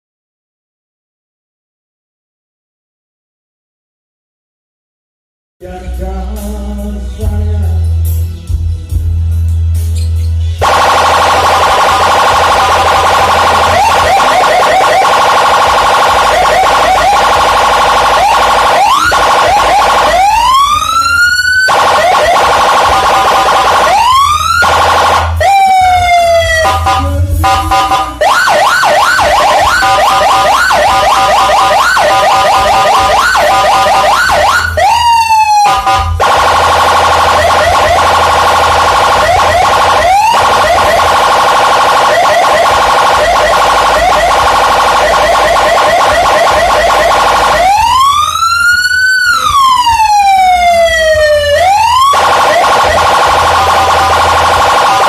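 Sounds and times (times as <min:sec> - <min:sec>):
electronic siren through horn speaker: 0:10.6 - 0:55.0.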